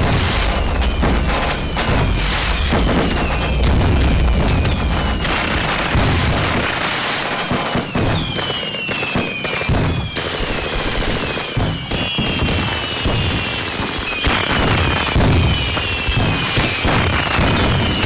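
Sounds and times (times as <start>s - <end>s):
firecracker bangs: 0.0s - 18.0s
fireworks booming: 0.0s - 18.0s
fireworks whistling: 0.0s - 18.0s.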